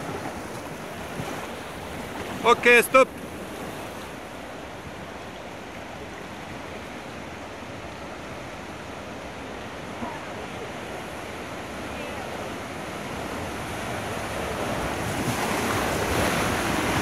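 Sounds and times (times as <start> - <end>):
whitewater river rushing: 0.0 - 17.0.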